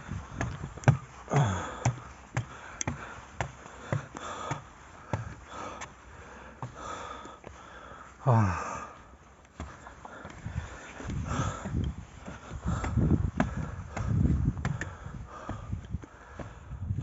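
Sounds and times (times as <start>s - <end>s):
footsteps climbing stairs: 0.0s - 17.0s
heavy breathing: 0.0s - 17.0s.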